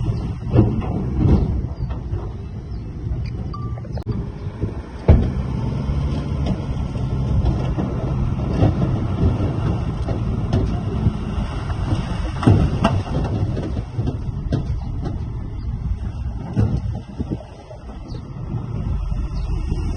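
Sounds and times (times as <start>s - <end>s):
metallic clanks and knocks: 0.0s - 11.2s, 11.8s - 18.2s
diesel machine engine running: 0.0s - 19.9s.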